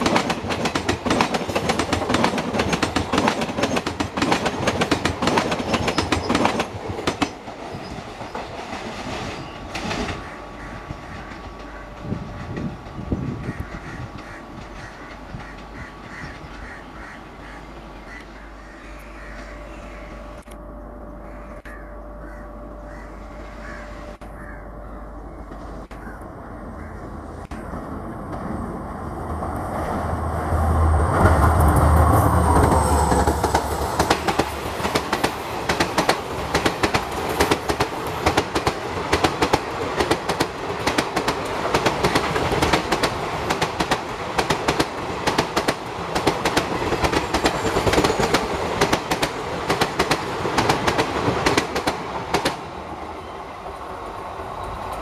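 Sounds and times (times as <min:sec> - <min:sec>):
wheels clickety-clack over rail joints: 0:00.0 - 0:18.4, 0:27.4 - 0:55.0.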